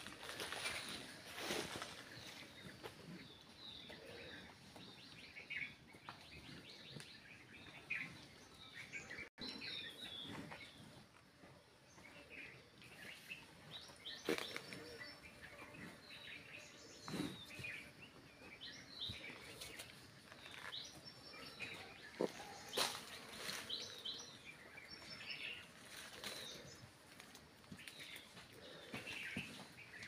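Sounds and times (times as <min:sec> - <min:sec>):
small birds chirping: 0:00.2 - 0:11.1, 0:11.8 - 0:30.0.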